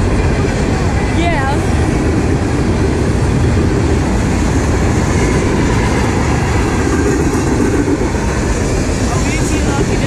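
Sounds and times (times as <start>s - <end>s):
steel wheels rolling on rail: 0.0s - 10.0s.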